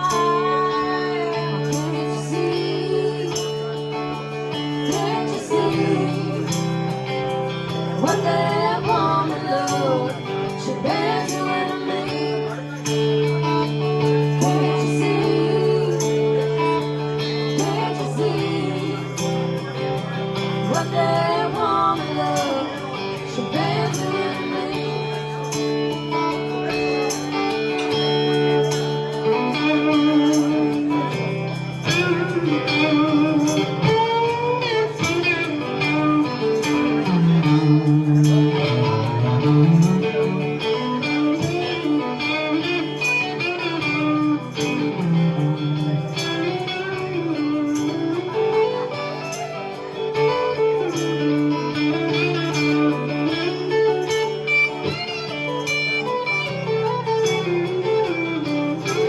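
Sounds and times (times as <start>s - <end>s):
bass: 0.0s - 59.0s
electric guitar lead: 0.0s - 59.0s
strummed guitar: 0.0s - 59.0s.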